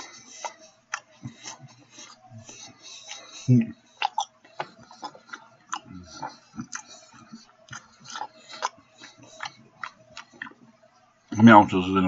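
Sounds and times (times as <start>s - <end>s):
chewing with wet mouth smacks: 0.0s - 10.7s.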